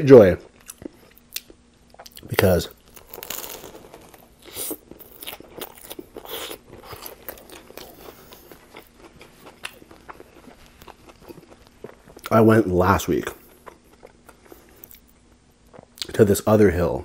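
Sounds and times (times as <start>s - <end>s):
biting and chewing sandwich: 0.4s - 16.1s.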